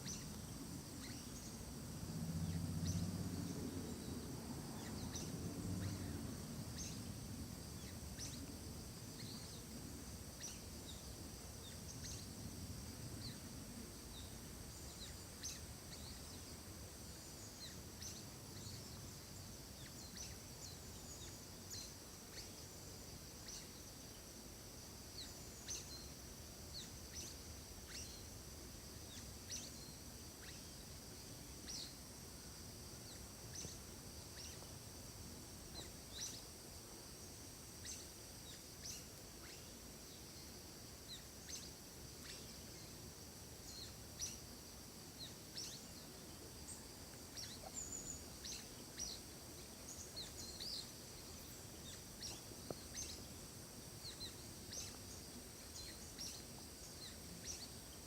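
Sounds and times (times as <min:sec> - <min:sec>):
faint hiss: 0:00.0 - 0:58.0
small birds chirping: 0:00.0 - 0:58.0.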